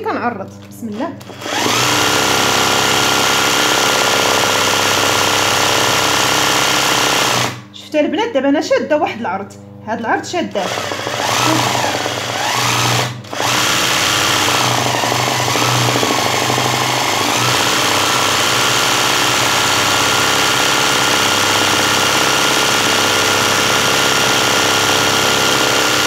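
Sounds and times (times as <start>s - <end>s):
sewing machine running: 0.9s - 7.6s, 10.5s - 26.0s.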